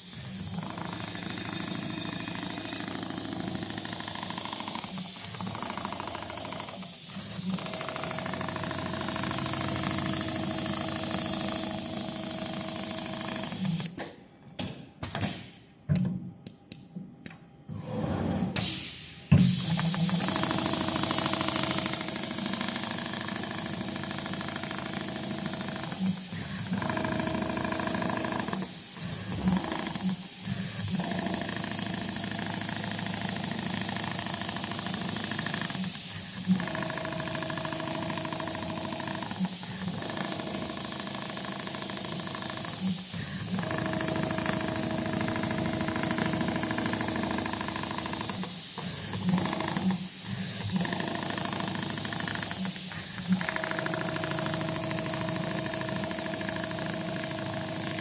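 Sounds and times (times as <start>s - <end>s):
sewing machine humming: 0.3s - 13.8s, 19.9s - 58.0s.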